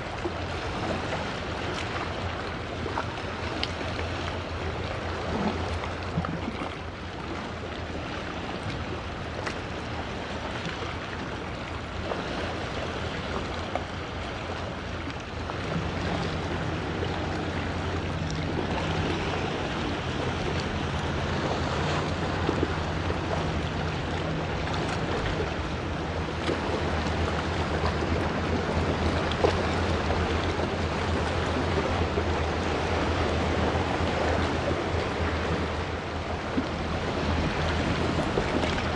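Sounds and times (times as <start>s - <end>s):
ship engine hum: 0.0s - 38.9s
waves washing: 0.0s - 38.9s.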